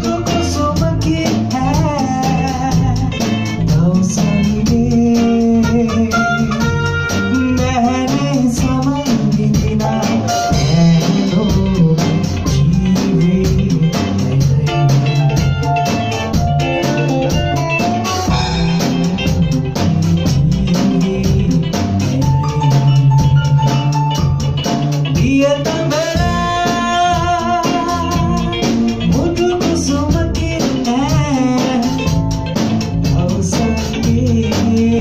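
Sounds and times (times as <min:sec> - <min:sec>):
drum kit beat: 0:00.0 - 0:35.0
electric bass line: 0:00.0 - 0:35.0
keyboard: 0:00.0 - 0:35.0.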